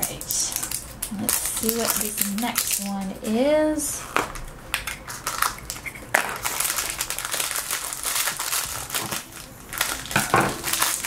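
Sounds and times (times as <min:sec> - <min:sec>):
foil wrapper crackling: 0:00.0 - 0:11.0.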